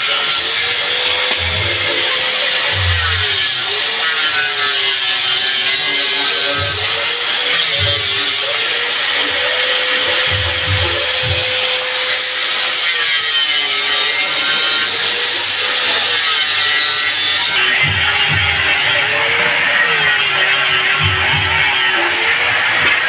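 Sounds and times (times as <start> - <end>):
electric grinder on steel blade: 0.0 - 23.0.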